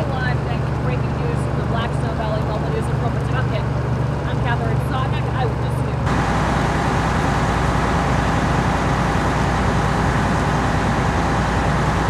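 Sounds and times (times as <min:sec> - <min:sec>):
heavy engines rumbling: 0:00.0 - 0:12.0
low hum: 0:00.0 - 0:12.0.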